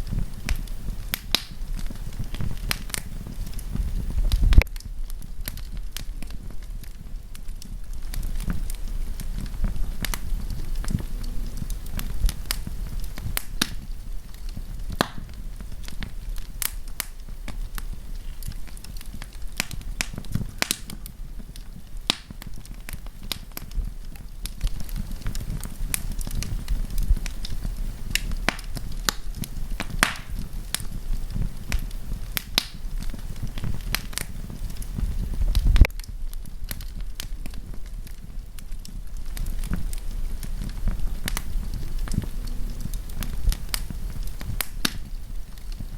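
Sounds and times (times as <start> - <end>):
burning wood snapping: 0.0 - 45.9
low rumble of flames: 0.0 - 45.9
wood fire crackling: 0.0 - 45.9.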